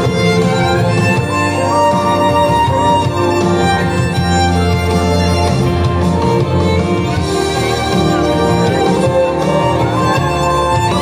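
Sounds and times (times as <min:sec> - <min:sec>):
musical accompaniment with bass: 0:00.0 - 0:11.0
violin melody: 0:00.0 - 0:11.0.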